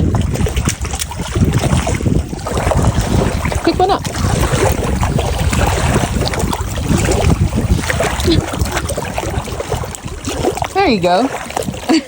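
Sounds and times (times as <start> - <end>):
water lapping: 0.0 - 12.0
wind buffeting microphone: 0.0 - 12.0.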